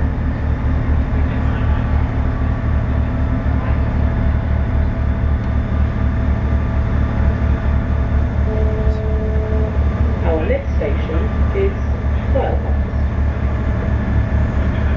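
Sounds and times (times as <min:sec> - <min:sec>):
train rumble: 0:00.0 - 0:14.9.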